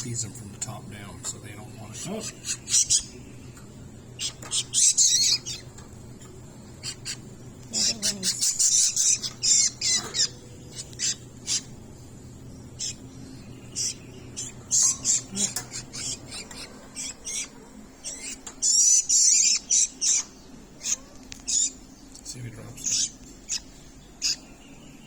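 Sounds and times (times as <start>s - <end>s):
nestling birds begging calls: 0.0s - 25.0s.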